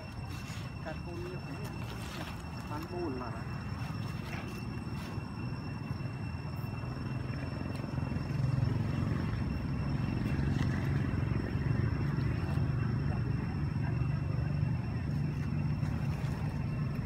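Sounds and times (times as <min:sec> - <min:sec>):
faint high whine: 0:00.0 - 0:17.0
vehicle engine rumble: 0:00.0 - 0:17.0.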